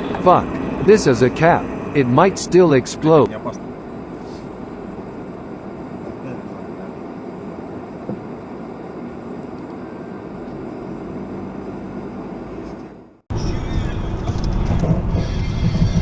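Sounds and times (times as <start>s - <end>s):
road noise: 0.0s - 15.4s
car engine drone: 0.0s - 16.0s.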